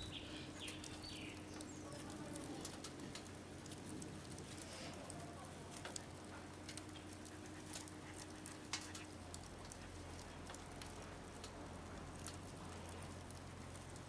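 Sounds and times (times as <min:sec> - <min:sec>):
fire crackling and popping: 0:00.0 - 0:14.0
fire steady hiss: 0:00.0 - 0:14.0.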